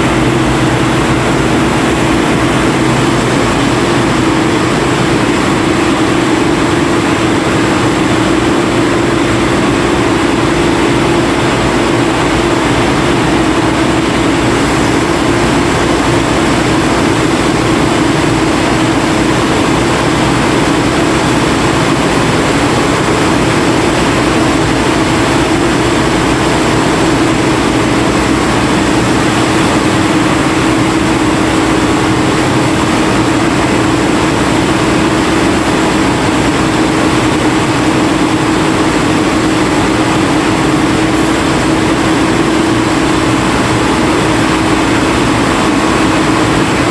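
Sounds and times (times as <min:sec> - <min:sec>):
dredge boat engine running: 0:00.0 - 0:46.9.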